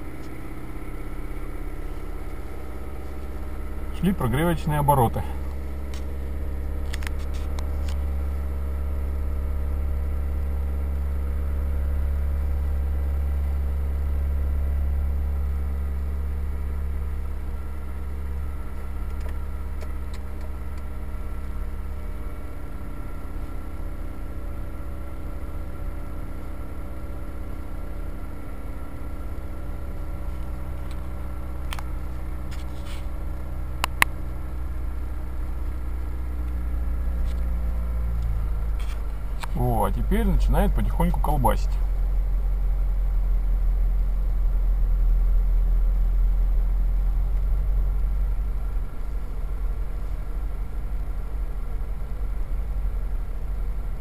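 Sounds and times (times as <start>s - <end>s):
car engine fast idling: 0.0s - 54.0s.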